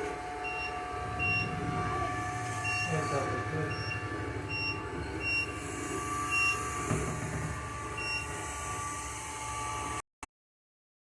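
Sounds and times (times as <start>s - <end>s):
robot vacuum motor whine: 0.0s - 10.0s.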